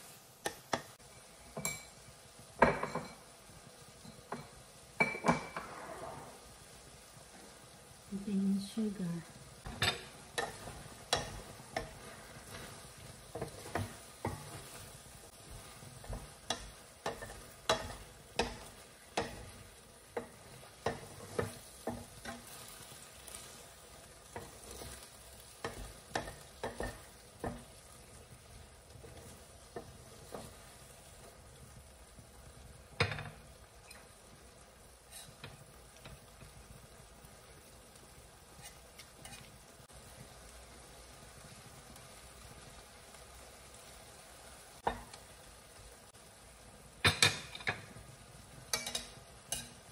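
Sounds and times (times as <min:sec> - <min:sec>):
food sizzling in a pan: 0:00.0 - 0:49.9.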